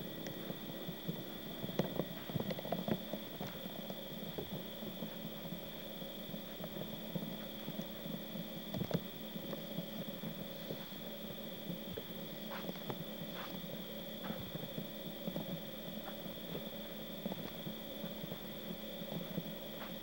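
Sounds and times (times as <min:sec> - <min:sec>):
steady hum with hiss: 0:00.0 - 0:20.0
faint clicks and knocks: 0:00.2 - 0:20.0.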